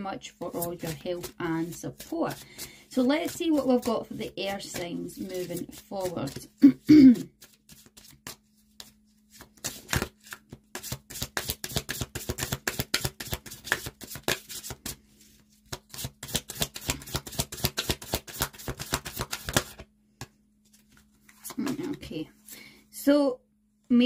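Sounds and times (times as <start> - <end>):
cards being shuffled: 0.5 - 22.0.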